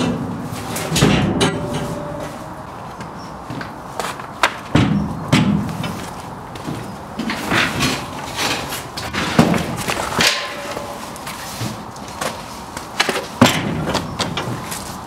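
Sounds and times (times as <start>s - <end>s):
wooden pallets knocking and scraping: 0.0s - 15.0s.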